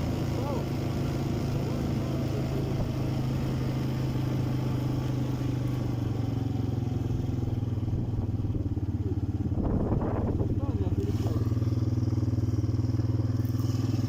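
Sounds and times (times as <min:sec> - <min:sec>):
quad bike engine droning: 0:00.0 - 0:14.0.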